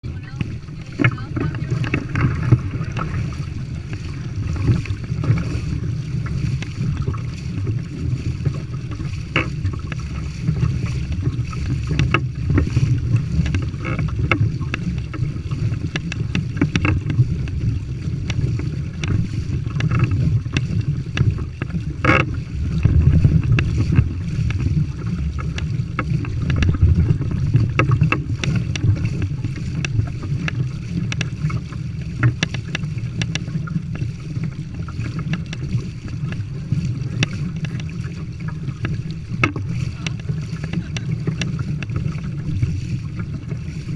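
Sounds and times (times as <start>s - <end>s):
wind rumble on microphone: 0.0s - 43.9s.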